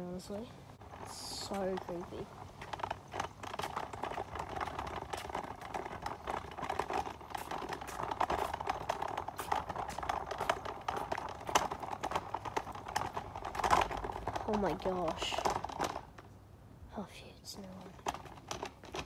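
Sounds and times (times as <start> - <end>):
footsteps on brick paving: 0.3 - 16.2.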